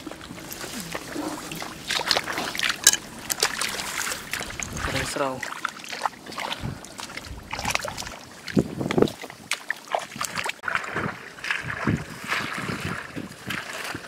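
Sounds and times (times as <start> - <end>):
splashing in shallow water: 0.0 - 14.0.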